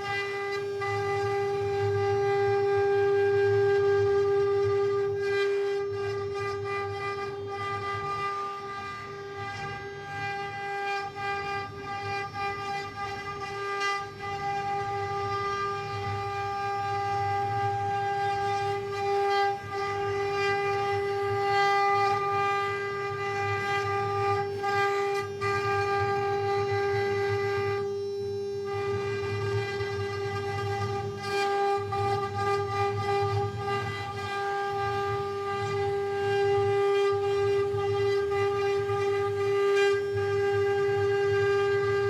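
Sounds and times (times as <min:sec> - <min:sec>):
router spindle whining: 0:00.0 - 0:42.0.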